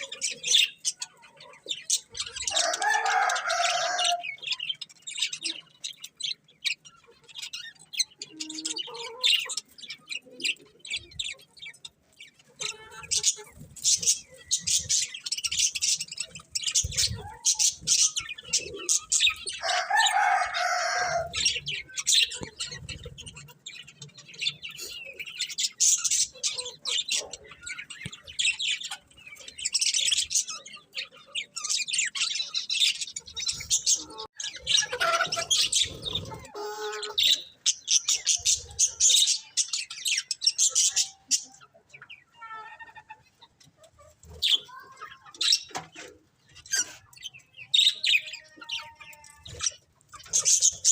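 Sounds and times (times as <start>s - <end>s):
budgerigars chirping: 0.0s - 43.2s, 44.3s - 50.9s.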